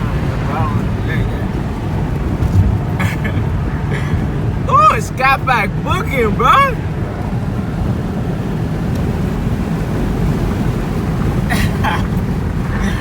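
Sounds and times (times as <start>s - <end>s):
car engines rumbling: 0.0s - 13.0s
road noise: 0.0s - 13.0s.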